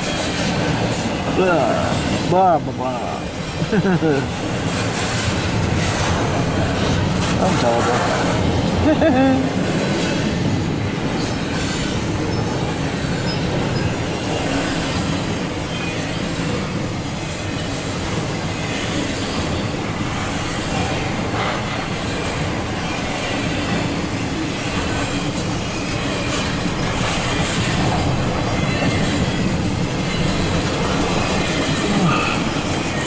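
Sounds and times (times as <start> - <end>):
freight train rolling past: 0.0 - 33.0
steel wheels on rails: 0.0 - 33.0.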